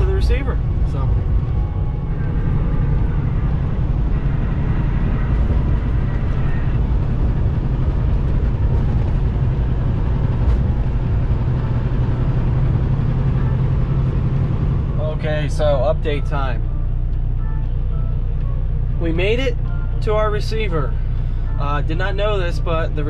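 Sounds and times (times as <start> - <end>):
road noise: 0.0 - 23.0
truck diesel engine rumble: 0.0 - 23.0.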